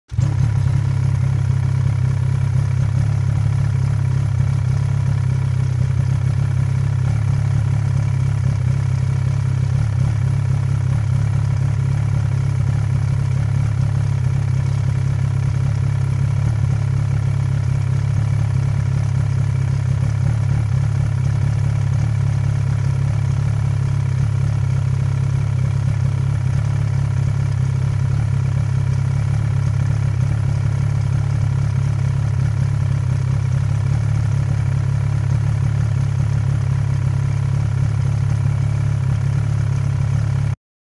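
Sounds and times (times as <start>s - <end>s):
two-stroke snowmobile engine droning: 0.1s - 40.6s.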